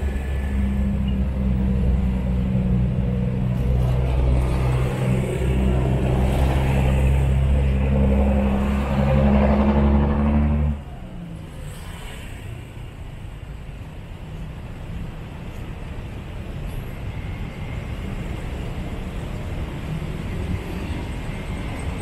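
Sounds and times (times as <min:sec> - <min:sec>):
street noise: 0:00.0 - 0:22.0.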